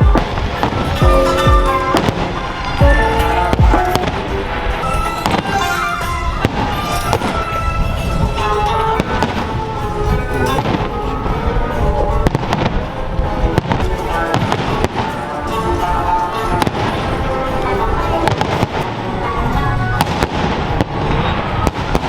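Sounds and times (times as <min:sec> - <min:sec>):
fireworks bursting: 0:00.0 - 0:22.0
music playing: 0:00.0 - 0:22.0.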